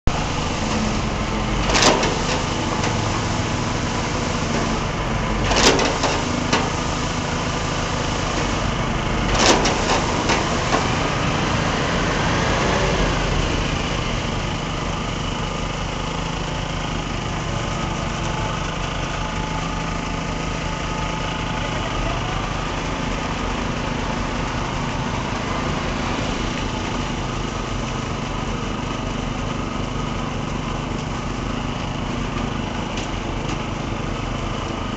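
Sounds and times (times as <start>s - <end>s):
machinery engine running: 0.0s - 34.9s.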